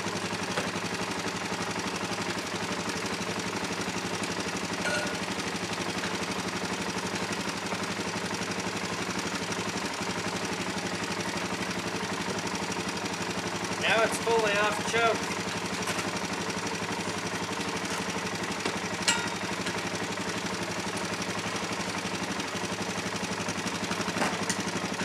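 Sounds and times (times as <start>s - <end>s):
quad engine idling: 0.0s - 25.0s.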